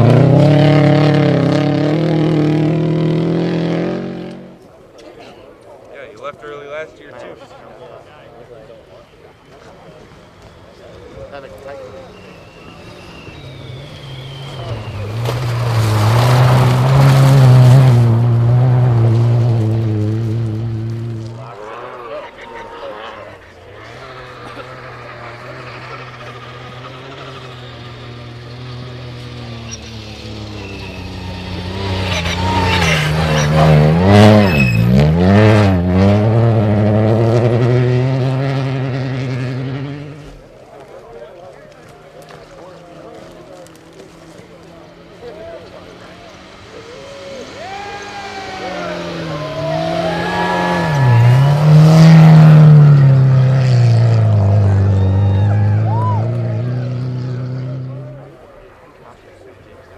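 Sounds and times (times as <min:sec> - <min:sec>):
rally car engine running hard: 0:00.0 - 0:04.6, 0:09.4 - 0:58.9
car rushing past: 0:00.0 - 0:04.8, 0:09.0 - 0:59.9.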